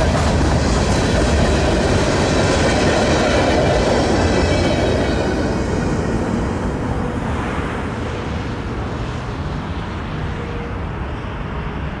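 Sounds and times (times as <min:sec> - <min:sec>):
freight train rumble: 0:00.0 - 0:12.0.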